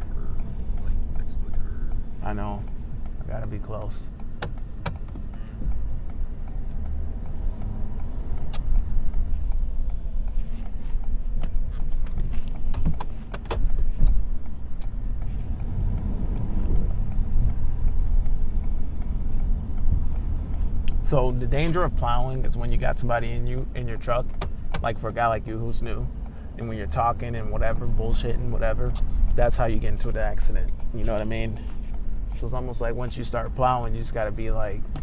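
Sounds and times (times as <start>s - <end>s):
sharp clicks and knocks: 0.0s - 35.0s
truck engine rumble: 0.0s - 35.0s.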